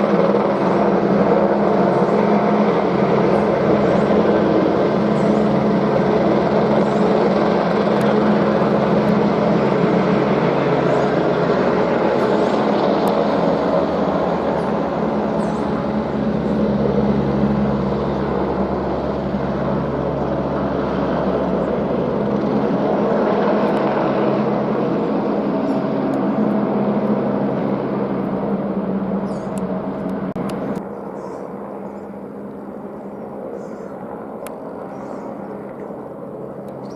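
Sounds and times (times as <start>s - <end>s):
helicopter engine and rotor drone: 0.0s - 36.9s.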